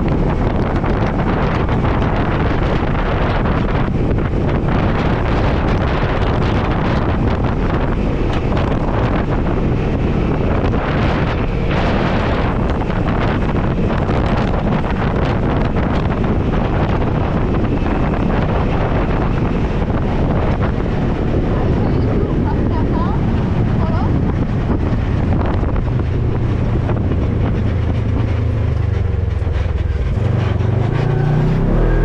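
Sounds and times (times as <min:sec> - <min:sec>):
vehicle engine running: 0:00.0 - 0:32.0
wind buffeting microphone: 0:00.0 - 0:32.0.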